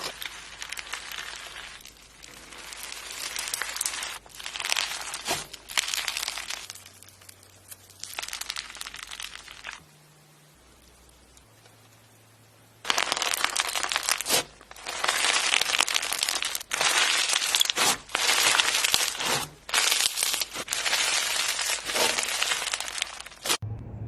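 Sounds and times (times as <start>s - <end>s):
crinkling crumpling by hand: 0.0s - 9.8s, 12.8s - 23.6s.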